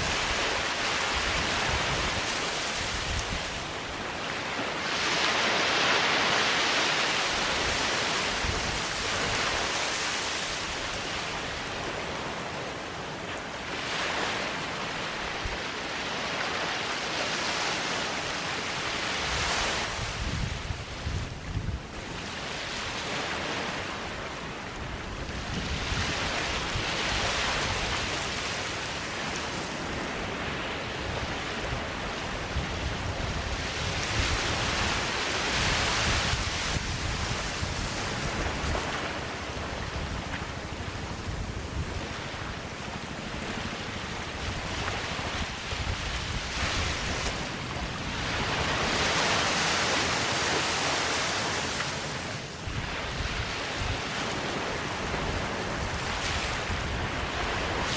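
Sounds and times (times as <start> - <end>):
waves breaking on beach: 0.0 - 57.9.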